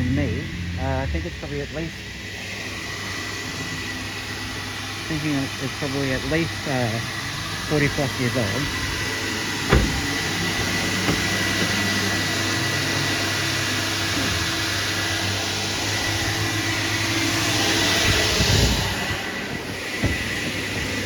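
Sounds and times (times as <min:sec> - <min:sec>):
vacuum running: 0:00.0 - 0:21.0.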